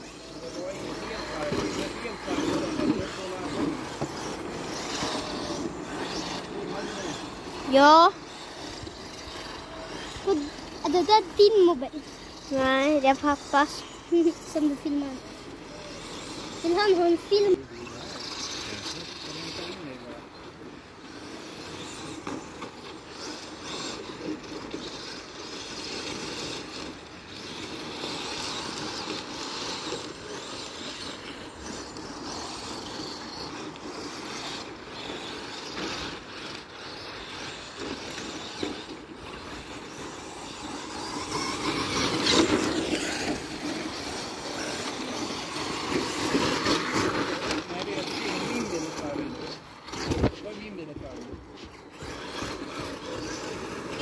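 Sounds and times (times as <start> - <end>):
electric rc car motor whine: 0.0 - 54.0
tyres on dirt: 0.0 - 54.0.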